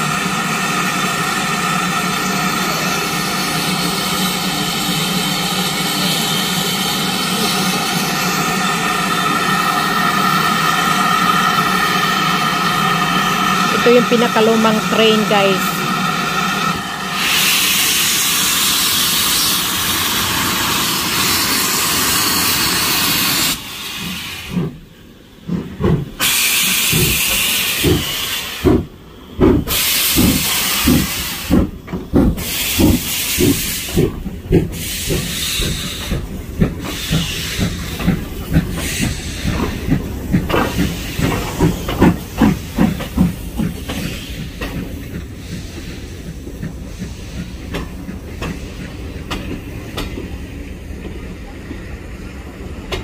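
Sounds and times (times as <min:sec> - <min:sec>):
steam hissing: 0:00.0 - 0:52.8
steam locomotive chuffing: 0:00.0 - 0:53.0.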